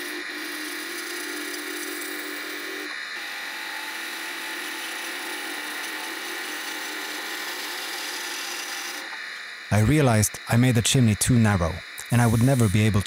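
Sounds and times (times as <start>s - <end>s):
lathe motor hum: 0.0s - 10.5s, 11.3s - 13.0s
turning tool hissing on wood: 0.0s - 13.0s.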